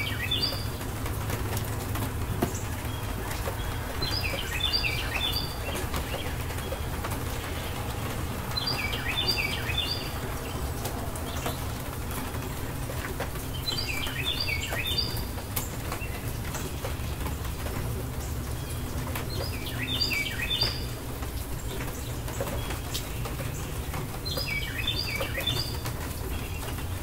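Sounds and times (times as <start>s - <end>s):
songbird singing: 0.0s - 27.0s
steady rain: 0.0s - 27.0s.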